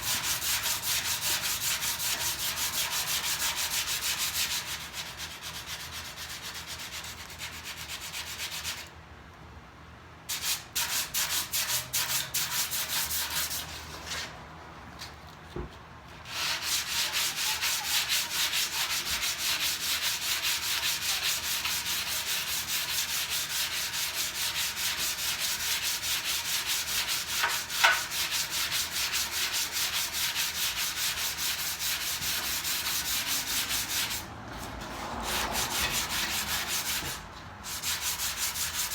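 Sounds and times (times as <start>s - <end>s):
sandpaper rubbing on filler: 0.0s - 8.9s, 10.3s - 14.4s, 16.2s - 38.9s.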